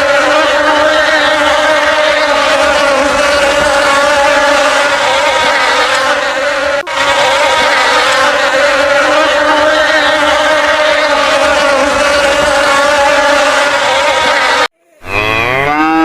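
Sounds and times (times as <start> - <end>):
insects buzzing: 0.0 - 15.2.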